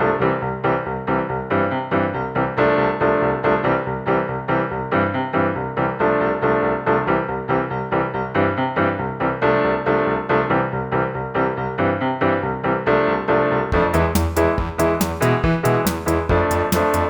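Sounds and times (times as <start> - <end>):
fast piano tune: 0.0 - 17.0.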